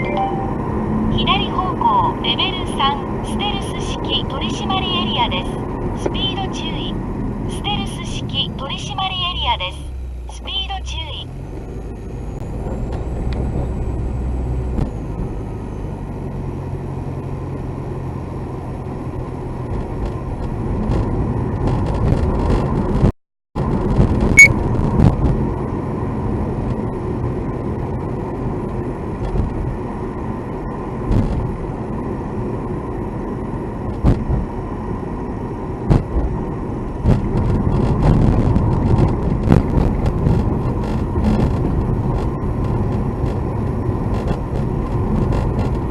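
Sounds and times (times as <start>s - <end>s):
car road and engine noise: 0.0s - 45.9s.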